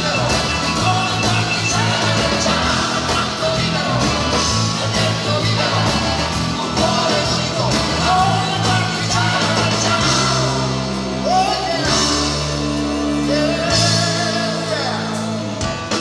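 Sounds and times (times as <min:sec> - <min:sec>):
live rock band playing: 0:00.0 - 0:16.0
man singing lead: 0:00.0 - 0:16.0.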